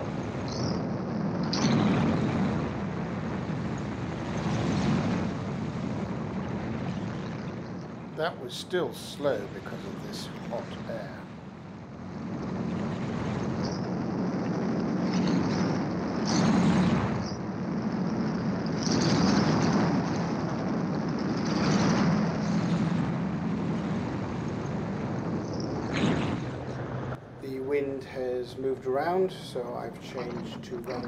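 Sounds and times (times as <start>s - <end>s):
engine and propeller drone: 0.0s - 31.0s
wind rushing over cockpit: 0.0s - 31.0s.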